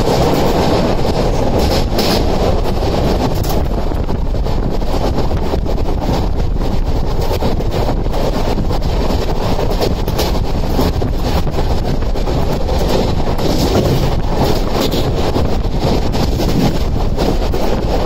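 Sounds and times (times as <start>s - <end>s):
train wheels rumbling on rail: 0.0s - 18.0s
wind buffeting microphone: 0.0s - 18.0s.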